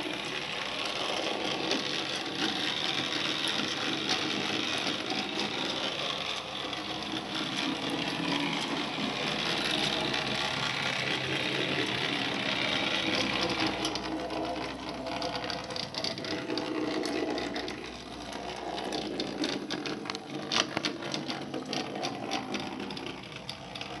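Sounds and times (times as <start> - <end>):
clicks and rattles: 0.0 - 24.0
small electric motor whirring: 0.0 - 24.0.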